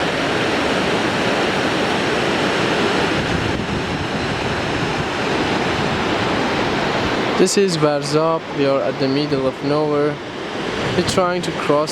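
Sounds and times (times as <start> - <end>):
river water rushing: 0.0 - 11.9.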